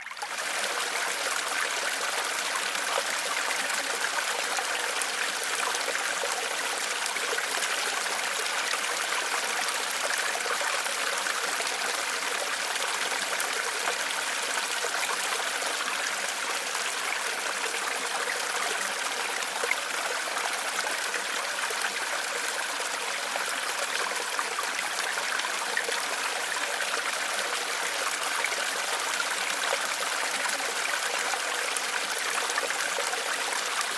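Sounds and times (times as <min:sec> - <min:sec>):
stream trickling over stones: 0:00.0 - 0:33.9.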